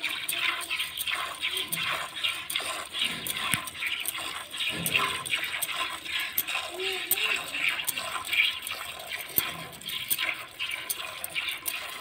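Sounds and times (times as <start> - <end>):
milk squirting into bucket: 0.0 - 12.0.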